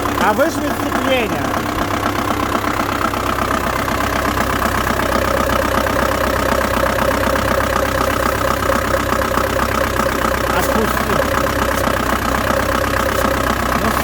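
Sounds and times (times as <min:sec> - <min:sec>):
van engine idling: 0:00.0 - 0:14.0.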